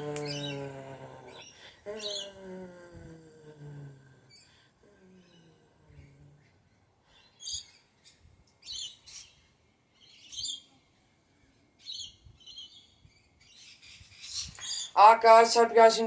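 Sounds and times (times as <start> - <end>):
small birds chirping: 0.0 - 15.7.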